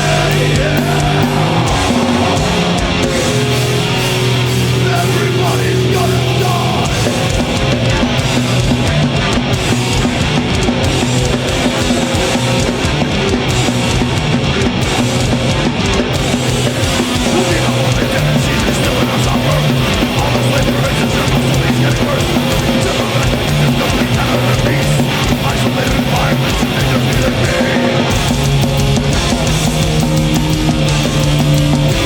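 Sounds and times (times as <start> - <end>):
bass guitar: 0.0 - 32.0
distorted electric guitars: 0.0 - 32.0
drum kit: 0.0 - 32.0.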